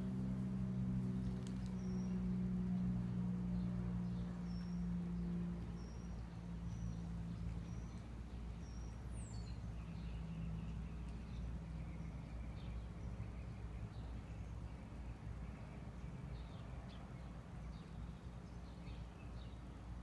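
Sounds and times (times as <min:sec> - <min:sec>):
steady low hum: 0:00.0 - 0:20.0
bird chirping: 0:01.1 - 0:02.3, 0:03.5 - 0:19.9.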